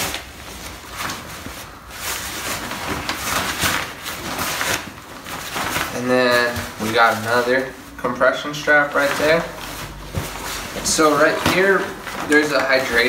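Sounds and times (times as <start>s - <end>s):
backpack fabric rustling: 0.0s - 13.0s.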